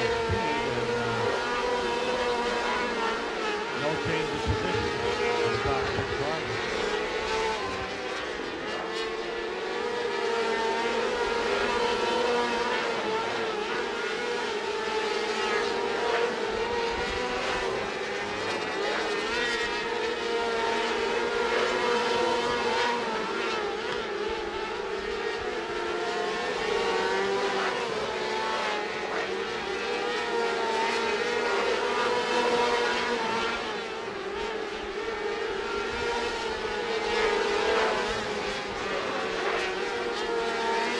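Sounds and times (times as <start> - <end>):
racing car engines revving: 0.0 - 40.9.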